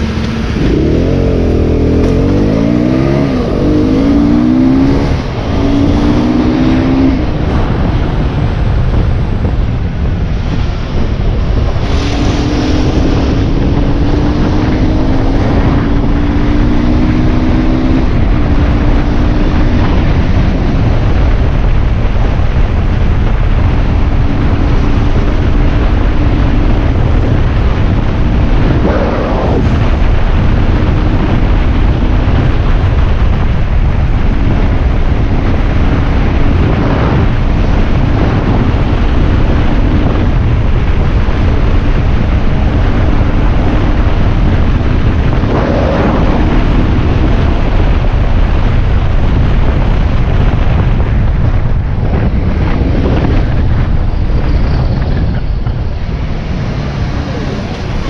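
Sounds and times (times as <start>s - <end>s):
wind buffeting the microphone: 0.0s - 58.0s.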